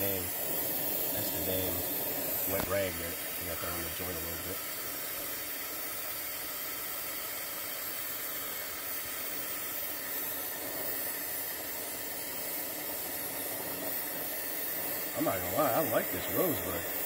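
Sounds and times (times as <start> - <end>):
gas torch hissing: 0.0 - 17.0.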